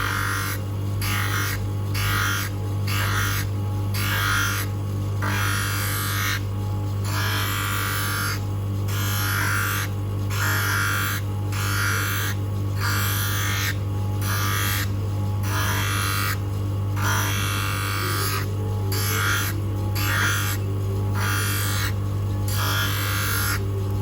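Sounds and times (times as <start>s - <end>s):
electric motor humming: 0.0s - 24.0s.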